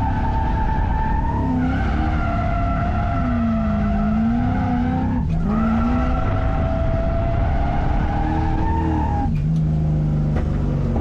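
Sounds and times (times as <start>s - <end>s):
car engine pulling hard: 0.0s - 11.0s
tyres skidding: 0.0s - 11.0s.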